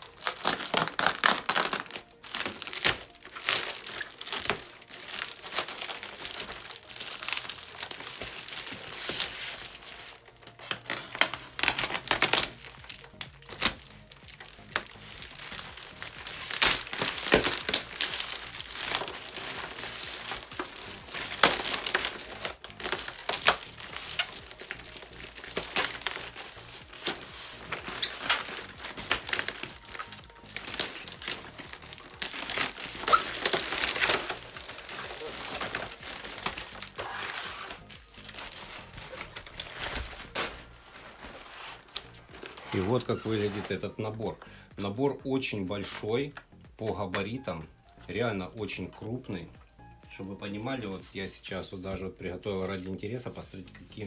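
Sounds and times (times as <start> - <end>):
parcel packaging crinkling and tearing: 0.0 - 44.4.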